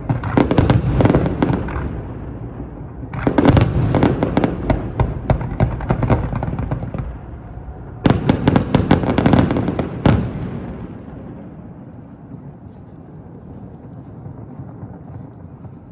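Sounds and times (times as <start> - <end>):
fireworks bangs: 0.0 - 15.9.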